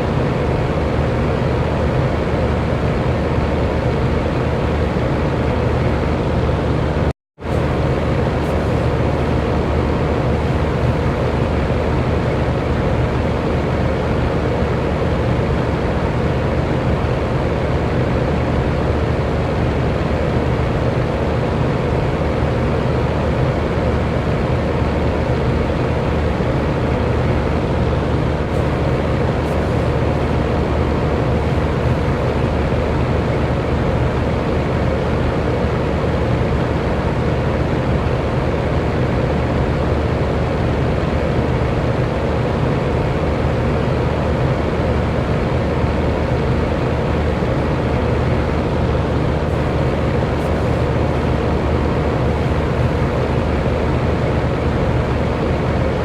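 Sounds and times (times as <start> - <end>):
electric fan air whooshing: 0.0 - 56.0
faint motor hum: 0.0 - 56.0.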